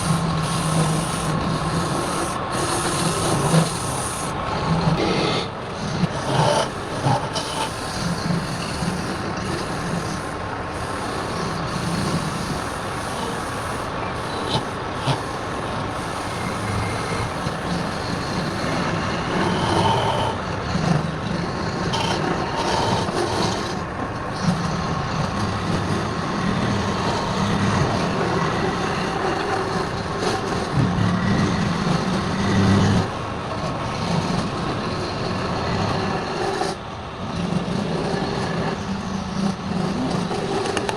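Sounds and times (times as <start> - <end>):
tool scraping spinning wood: 0.0 - 40.9
wood lathe running: 0.0 - 40.9.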